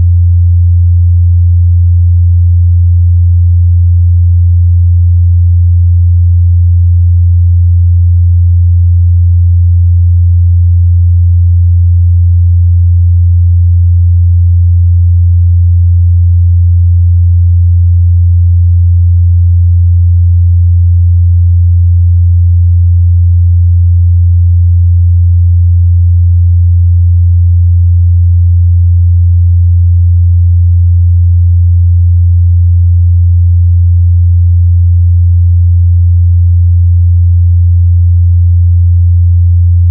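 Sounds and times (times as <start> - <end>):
low sine test tone: 0.0 - 39.9.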